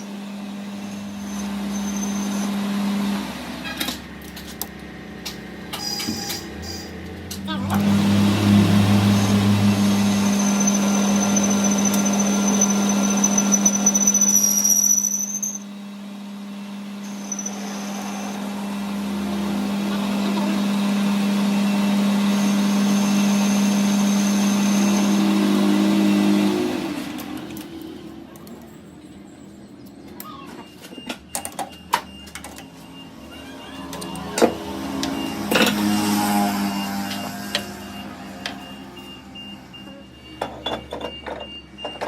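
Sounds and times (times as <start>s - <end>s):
workshop machine humming and whining: 0.0s - 42.0s.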